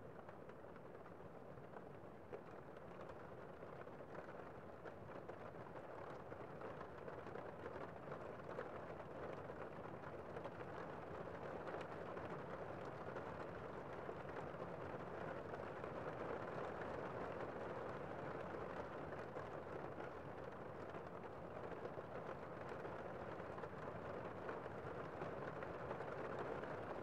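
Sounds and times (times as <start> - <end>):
rain on a window: 0.0 - 27.0.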